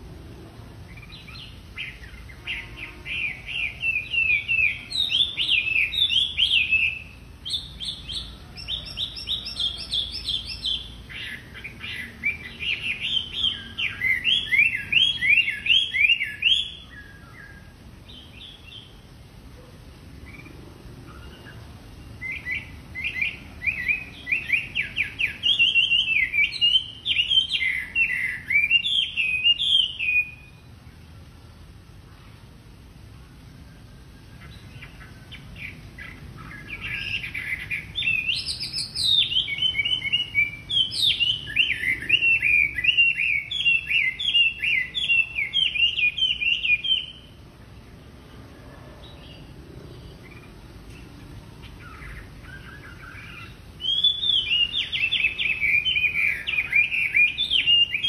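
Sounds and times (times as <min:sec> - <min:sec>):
bird singing whistled notes: 0:00.9 - 0:19.0, 0:19.6 - 0:31.2, 0:33.6 - 0:47.5, 0:49.0 - 0:58.0.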